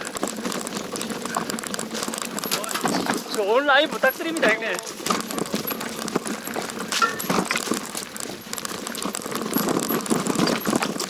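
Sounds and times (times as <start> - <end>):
bike chain and frame jangling: 0.0 - 11.0
tyres on rocks and dirt: 0.0 - 11.0.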